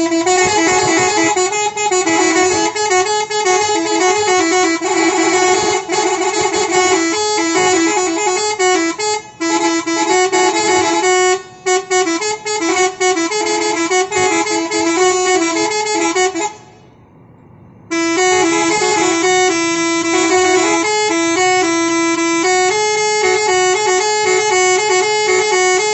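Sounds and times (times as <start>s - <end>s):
multi-tone bus horn melody: 0.0s - 25.9s.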